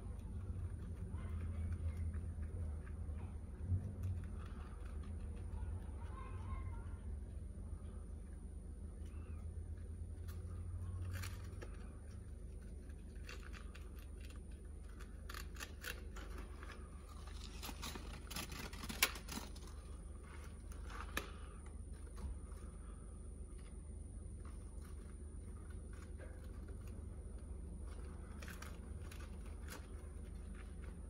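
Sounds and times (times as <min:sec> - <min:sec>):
small clicks and scrapes: 0:00.0 - 0:07.0, 0:09.0 - 0:31.0
steady low hum: 0:00.0 - 0:31.0.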